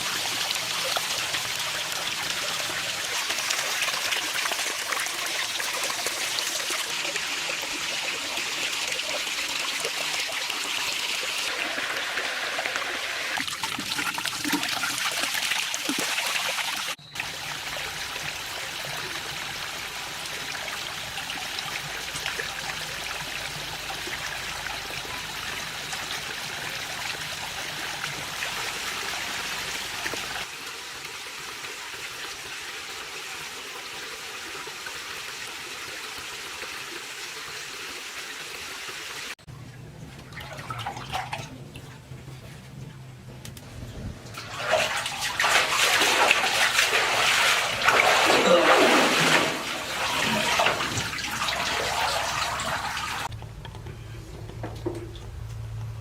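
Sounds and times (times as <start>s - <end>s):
water running and trickling: 0.0s - 39.4s, 44.2s - 53.3s.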